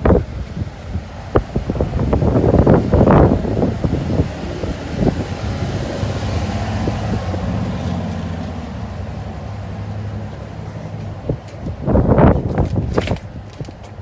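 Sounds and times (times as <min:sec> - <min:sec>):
car engine humming: 0:00.0 - 0:14.0
wind gusting on microphone: 0:00.0 - 0:14.0.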